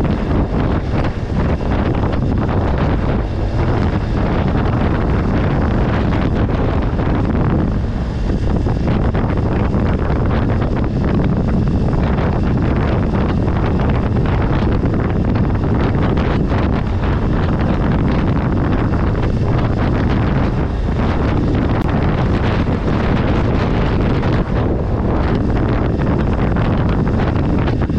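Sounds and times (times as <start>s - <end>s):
motorcycle engine running: 0.0s - 27.9s
wind buffeting microphone: 0.0s - 27.9s.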